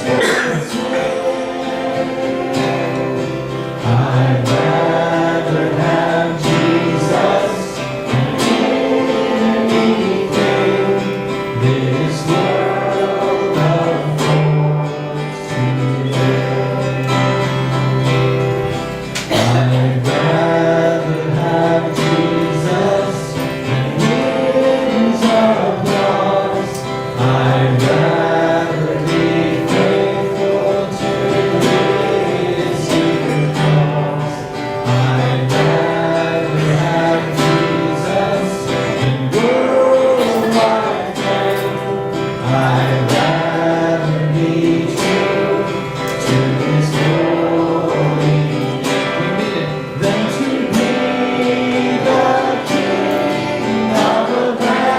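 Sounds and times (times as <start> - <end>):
strummed acoustic guitar: 0.0 - 54.9
voices singing: 0.0 - 54.9.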